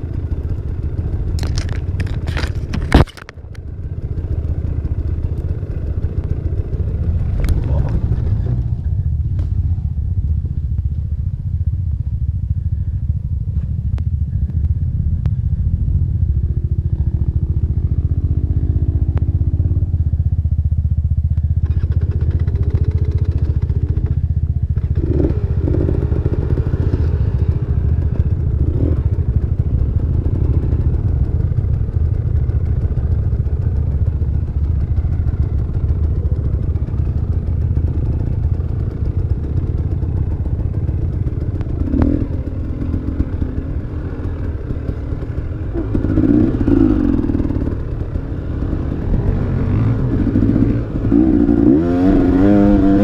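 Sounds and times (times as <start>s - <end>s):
motorcycle engine at low revs: 0.0s - 53.0s.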